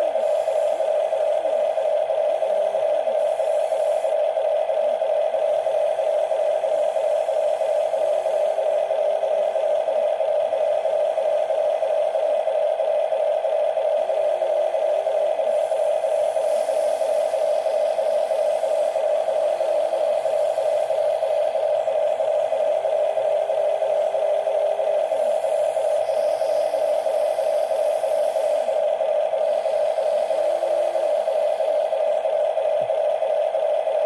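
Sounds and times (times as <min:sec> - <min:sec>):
lower motor whine: 0:00.0 - 0:34.0
toy motors high whine: 0:00.0 - 0:34.0.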